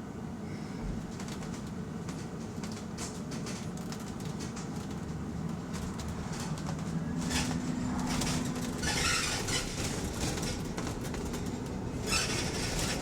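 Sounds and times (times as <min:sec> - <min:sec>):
bus cabin rumble: 0:00.0 - 0:13.0.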